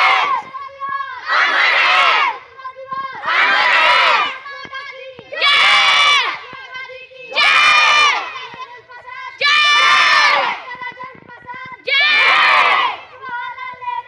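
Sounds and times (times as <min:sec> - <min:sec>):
children shouting in unison: 0:00.0 - 0:06.5, 0:07.3 - 0:10.9, 0:11.9 - 0:14.0.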